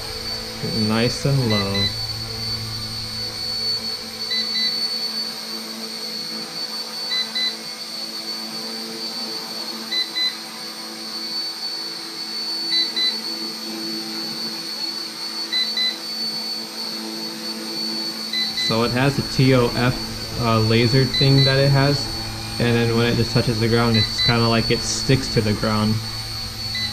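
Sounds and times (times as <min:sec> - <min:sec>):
toy helicopter rotors whining: 0:00.0 - 0:26.9.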